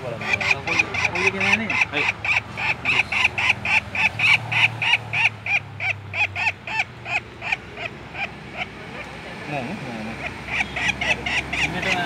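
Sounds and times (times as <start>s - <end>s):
woodpecker rattling call: 0.0s - 9.2s, 10.0s - 12.0s.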